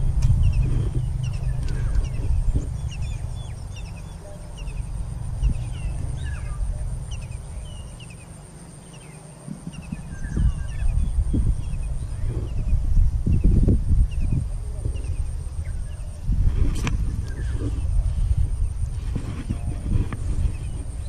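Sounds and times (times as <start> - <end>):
small birds chirping: 0.0 - 21.0
wind rumble on microphone: 0.0 - 21.0.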